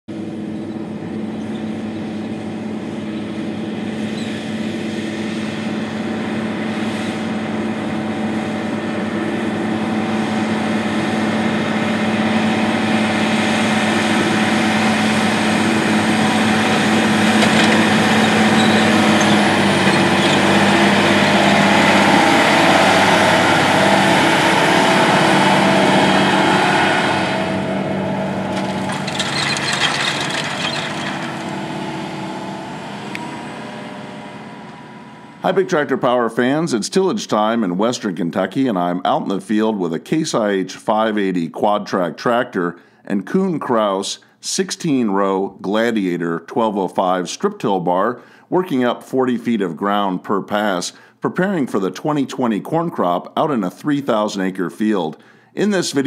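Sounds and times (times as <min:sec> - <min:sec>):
tractor diesel engine under load: 0:00.1 - 0:56.0.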